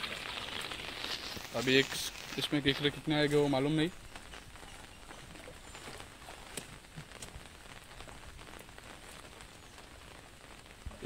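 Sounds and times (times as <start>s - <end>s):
rain hissing on water: 0.0s - 11.0s.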